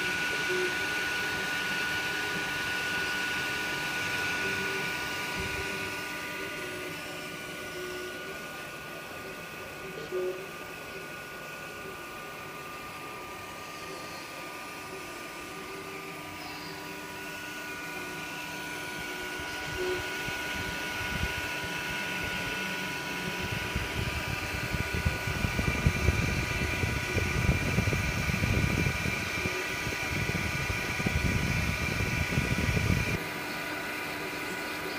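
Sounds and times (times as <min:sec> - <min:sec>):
print head whirring: 0:00.0 - 0:34.9
printer fan hum: 0:00.0 - 0:34.9.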